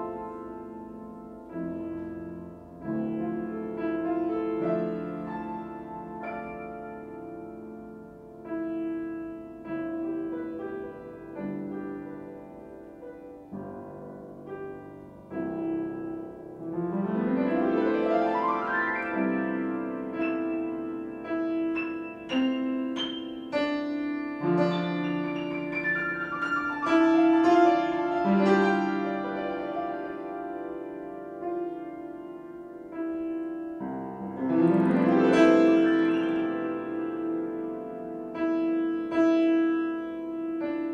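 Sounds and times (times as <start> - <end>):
solo piano playing: 0.0 - 40.9.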